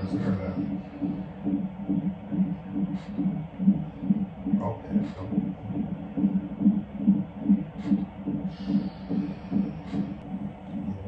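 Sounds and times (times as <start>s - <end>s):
whooshing fetal heartbeat: 0.0s - 11.0s.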